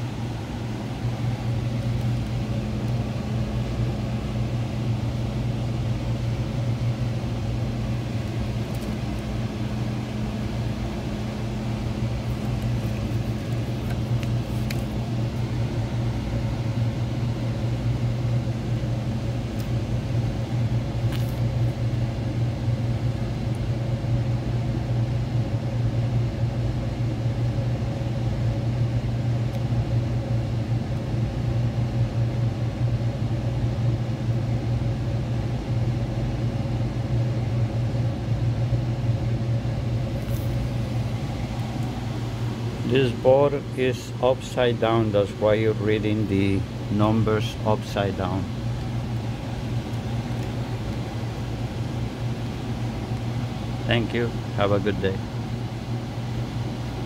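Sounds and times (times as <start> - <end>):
heat pump humming: 0.0 - 57.0.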